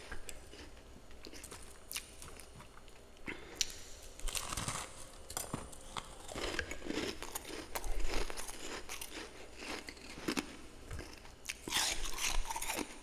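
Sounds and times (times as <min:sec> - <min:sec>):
frost being chewed: 0:00.0 - 0:13.0.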